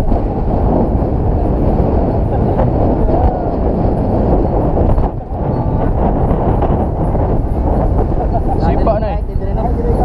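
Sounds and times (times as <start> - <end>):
vehicle rumbling along road: 0.0 - 10.0
wind buffeting microphone: 0.0 - 10.0.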